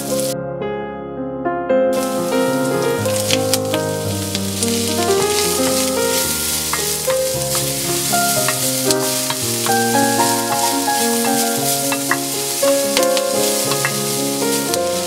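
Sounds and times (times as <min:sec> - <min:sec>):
background music: 0:02.0 - 0:15.0
food sizzling in oil: 0:02.0 - 0:15.0
wooden spatula knocks and scrapes: 0:02.9 - 0:15.0.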